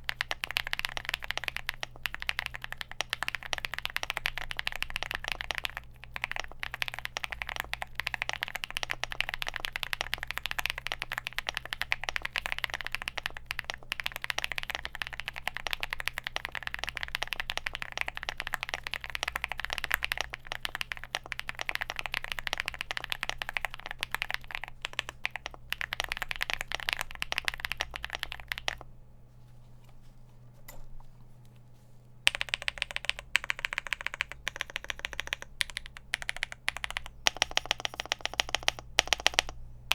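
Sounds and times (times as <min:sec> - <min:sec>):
fast keyboard typing: 0:00.0 - 0:28.8, 0:32.3 - 0:39.6.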